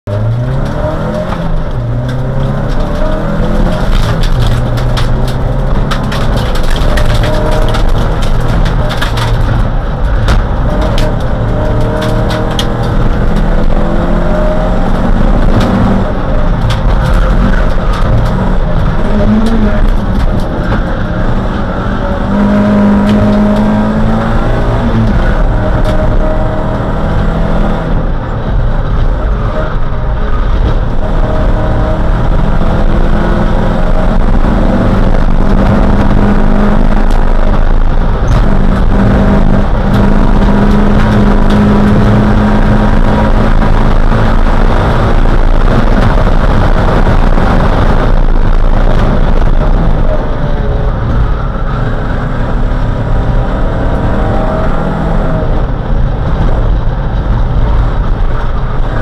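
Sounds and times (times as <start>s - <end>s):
tyre and road noise: 0.0s - 59.0s
race car engine revving: 0.1s - 59.0s
sharp clicks and rattles: 0.1s - 59.0s.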